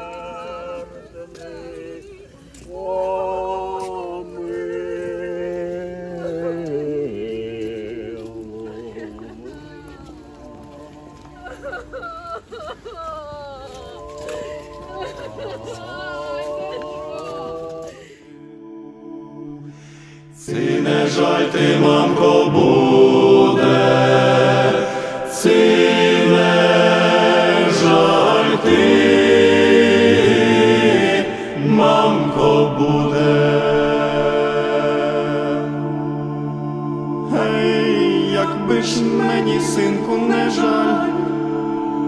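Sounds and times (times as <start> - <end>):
choir singing a chant: 0.0 - 11.4, 13.9 - 42.0.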